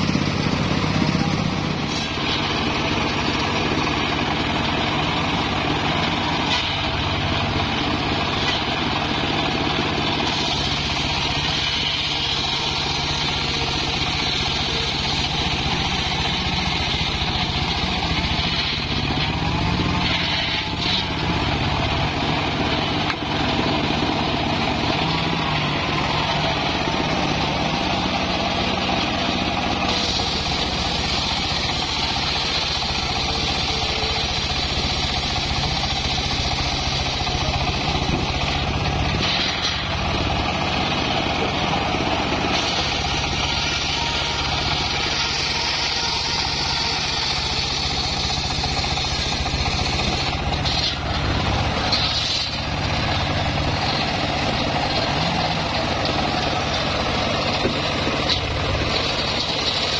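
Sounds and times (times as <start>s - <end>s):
circular sawmill cutting log: 0.0s - 59.9s.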